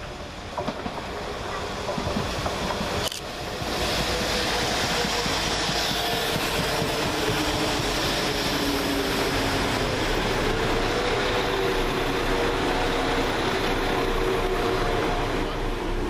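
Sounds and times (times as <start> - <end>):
diesel train engines running: 0.0 - 16.0
train wheels rumbling on rails: 0.0 - 16.0.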